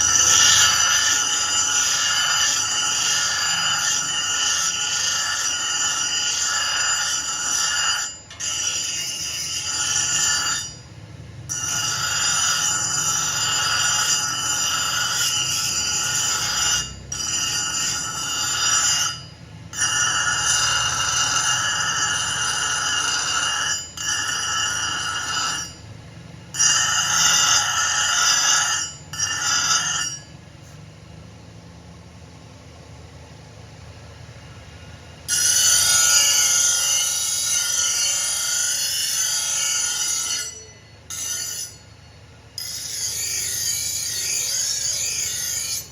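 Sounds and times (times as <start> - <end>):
power grinder whining on steel: 0.0 - 10.8, 11.5 - 25.8, 26.5 - 30.3, 35.2 - 41.9, 42.6 - 45.9.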